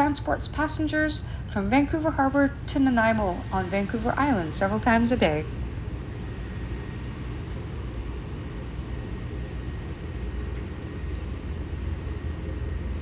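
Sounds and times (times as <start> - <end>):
turboprop engine running: 0.0 - 13.0.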